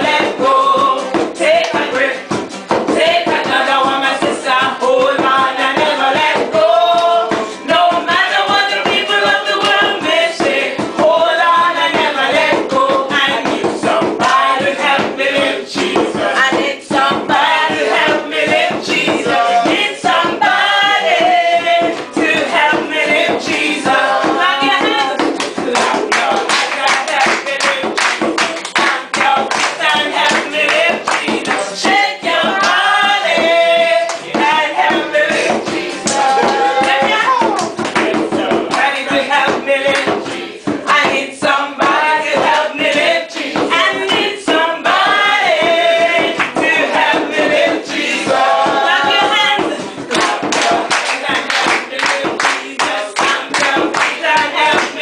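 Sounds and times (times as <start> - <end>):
upbeat pop song with singer: 0.0 - 55.0.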